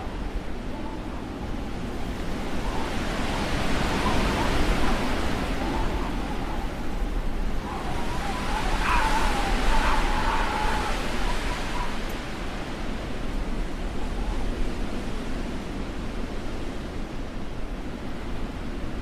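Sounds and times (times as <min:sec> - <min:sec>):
blizzard wind blowing in gusts: 0:00.0 - 0:19.0
thin wind whistling: 0:00.0 - 0:19.0.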